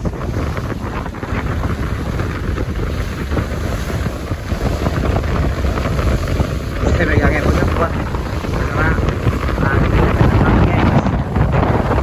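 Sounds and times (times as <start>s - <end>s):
low rumble of ship: 0.0s - 12.0s
wind buffeting microphone: 0.0s - 12.0s.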